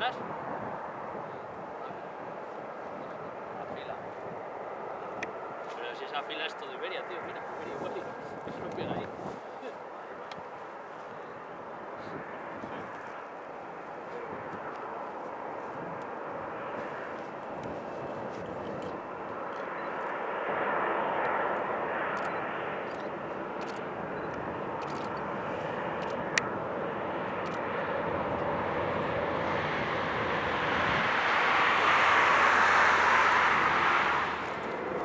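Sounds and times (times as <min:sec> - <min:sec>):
jet airliner engine noise: 0:00.0 - 0:35.0.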